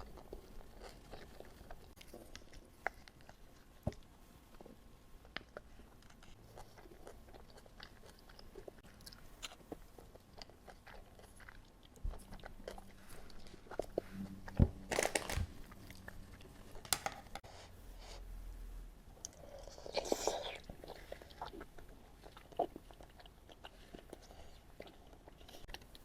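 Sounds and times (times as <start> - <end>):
chewing and biting food: 0.0 - 4.0, 5.2 - 16.8, 19.2 - 26.0.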